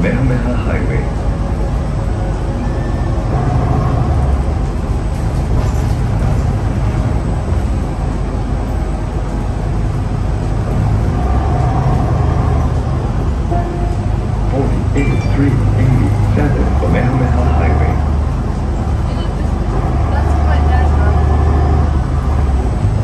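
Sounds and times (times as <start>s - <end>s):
bus engine drone: 0.0s - 23.0s
road and tyre rumble: 0.0s - 23.0s.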